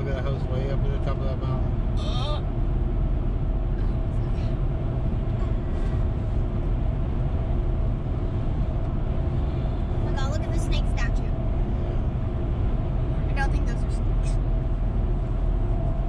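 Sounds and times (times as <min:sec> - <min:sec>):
car tyres and engine rumbling: 0:00.0 - 0:16.0.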